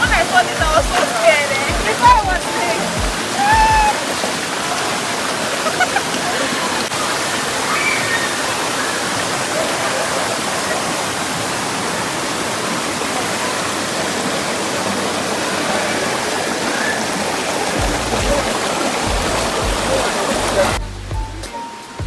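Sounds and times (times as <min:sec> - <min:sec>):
waterfall rushing: 0:00.0 - 0:20.8
faint voices: 0:00.0 - 0:20.9.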